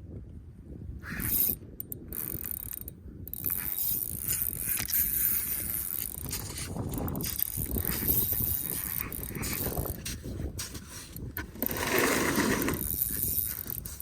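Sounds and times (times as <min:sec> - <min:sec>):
fishing reel ratcheting: 0:01.1 - 0:14.0.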